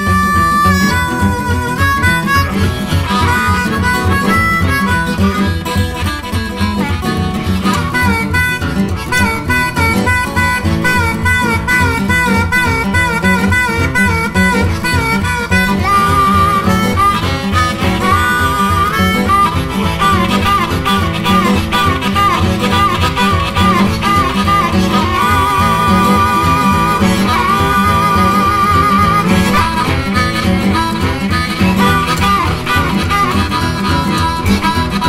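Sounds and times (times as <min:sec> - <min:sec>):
amplified harmonica solo: 0:00.0 - 0:35.0
electric blues band playing: 0:00.0 - 0:35.0.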